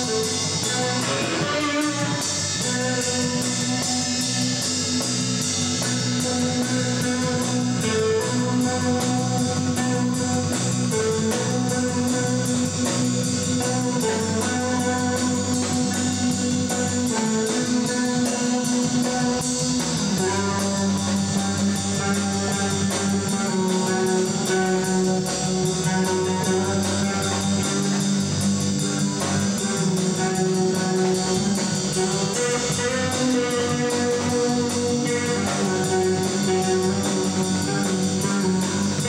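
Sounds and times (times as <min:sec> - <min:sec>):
drums: 0:00.0 - 0:39.0
electric bass guitar: 0:00.0 - 0:39.0
live band playing: 0:00.0 - 0:39.0.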